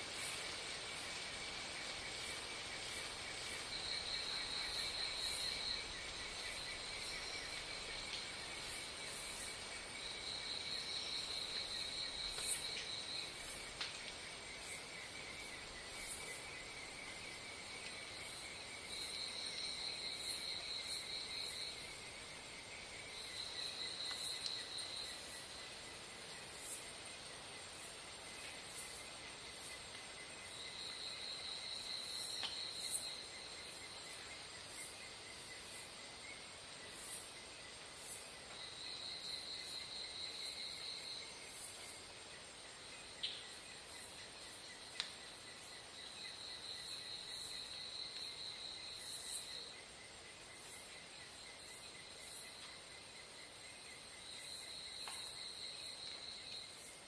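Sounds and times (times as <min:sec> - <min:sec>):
insects pulsing drone: 0:00.0 - 0:57.0.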